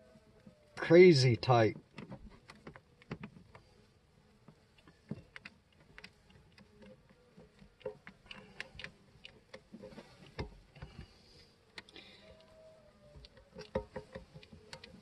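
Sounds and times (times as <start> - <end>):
bees humming faintly: 0.0 - 15.0.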